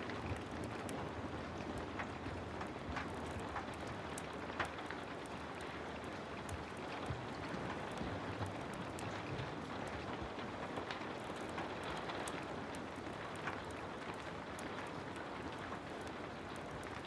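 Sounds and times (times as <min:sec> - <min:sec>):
heavy rain falling: 0:00.0 - 0:17.0
sharp ticks and crackles: 0:00.0 - 0:17.0.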